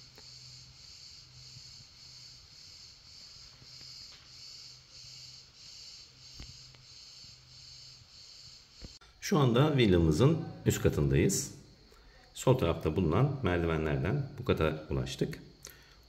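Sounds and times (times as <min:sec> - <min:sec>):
pulsing insect chorus: 0:00.0 - 0:16.0.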